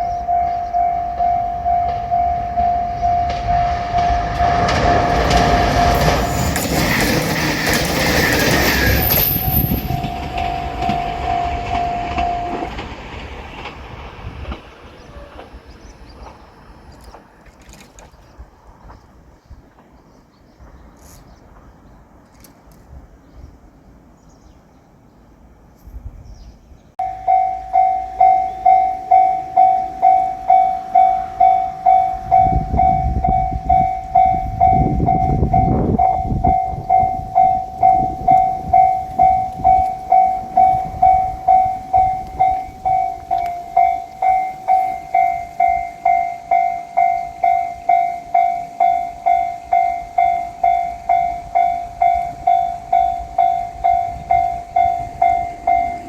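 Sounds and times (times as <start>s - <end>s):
level-crossing warning bell: 0.0s - 13.7s, 14.5s - 17.5s, 27.0s - 56.0s
diesel train rumbling past: 0.0s - 56.0s.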